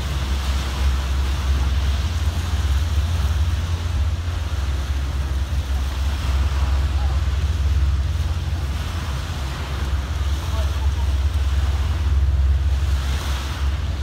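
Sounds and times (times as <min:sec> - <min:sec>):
open water washing: 0:00.0 - 0:14.0
wind buffeting microphone: 0:00.0 - 0:14.0.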